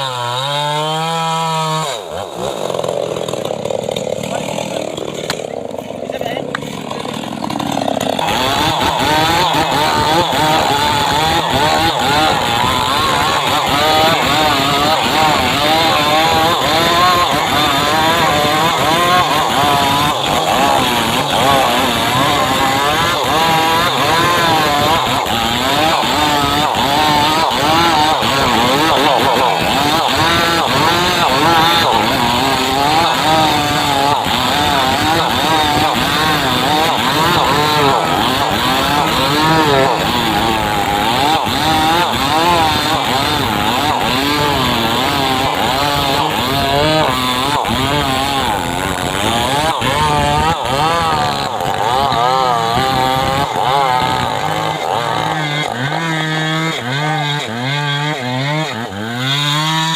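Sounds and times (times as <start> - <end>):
chainsaw cutting timber: 0.0 - 59.9.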